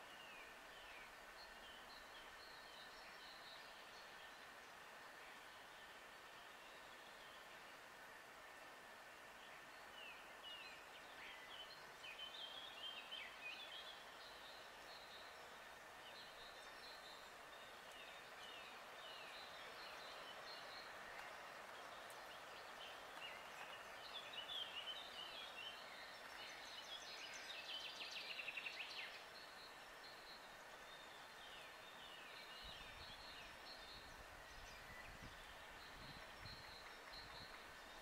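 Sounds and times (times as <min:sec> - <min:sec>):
small songbirds chirping: 0:00.0 - 0:38.0.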